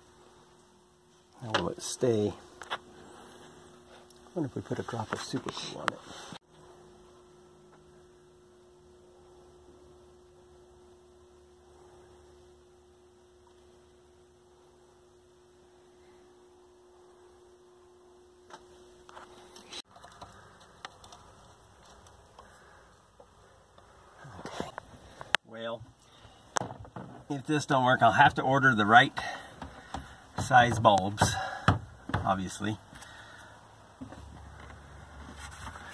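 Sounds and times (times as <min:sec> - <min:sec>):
faint electrical hum: 0:00.0 - 0:35.9.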